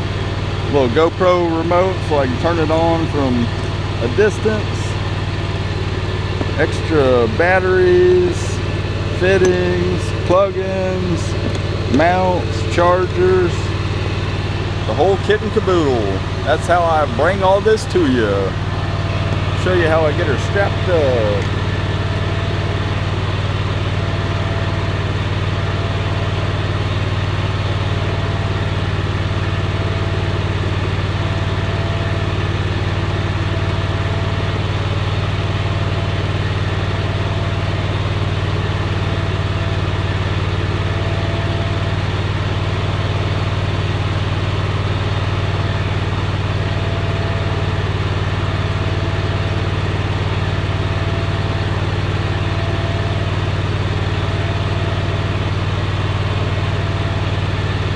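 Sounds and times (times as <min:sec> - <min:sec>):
mower engine idling: 0:00.0 - 0:57.9.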